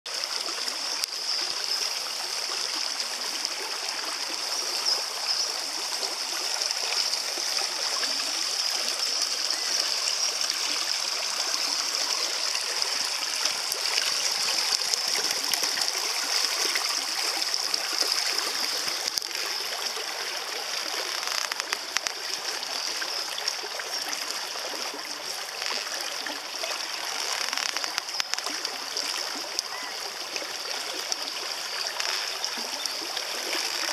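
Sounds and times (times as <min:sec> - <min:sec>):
stream flowing over stones: 0:00.1 - 0:33.9.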